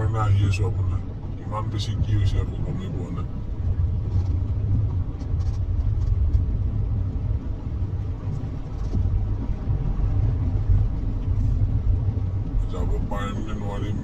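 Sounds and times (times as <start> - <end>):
car rumble from inside cabin: 0.0 - 14.0.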